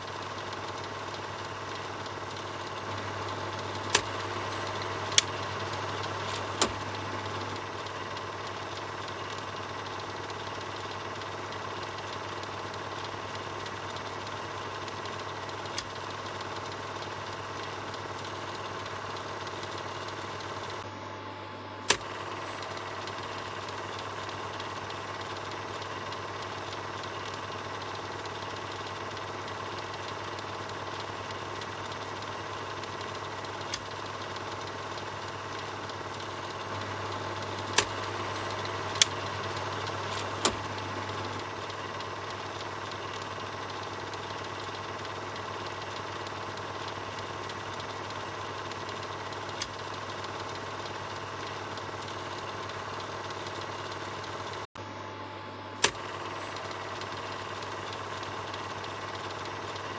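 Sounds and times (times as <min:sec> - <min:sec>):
film projector whirring: 0:00.0 - 0:59.9
sharp clicks: 0:00.2 - 0:20.8, 0:21.9 - 0:54.6, 0:55.8 - 0:59.9.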